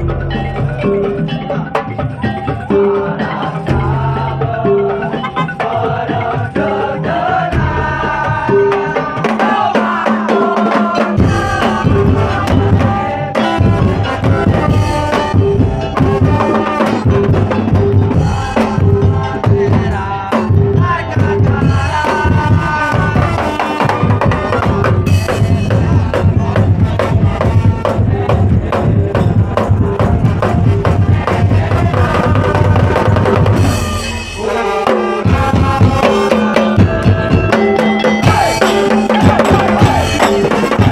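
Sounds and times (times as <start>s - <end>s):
percussion music with melody: 0.0s - 40.9s
heavy bass drum: 7.1s - 40.9s.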